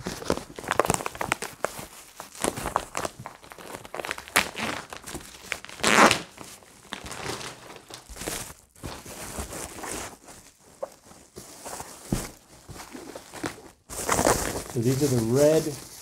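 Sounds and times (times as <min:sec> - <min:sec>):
plastic wrapping crinkling and tearing: 0:00.0 - 0:16.0.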